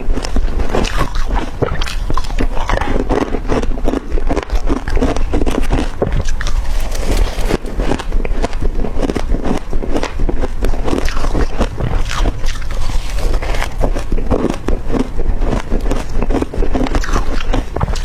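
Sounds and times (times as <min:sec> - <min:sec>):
crunching ice between teeth: 0:00.0 - 0:18.0.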